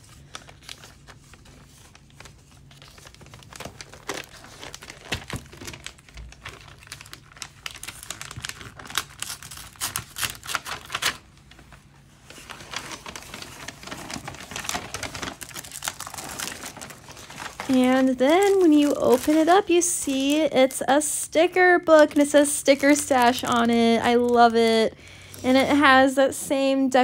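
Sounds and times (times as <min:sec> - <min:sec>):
paper wrapping crinkling: 0:00.0 - 0:26.1.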